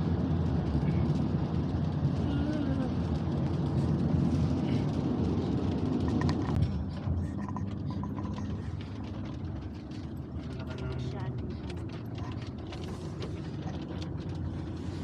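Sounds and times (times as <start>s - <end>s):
road noise inside moving car: 0.0s - 15.0s.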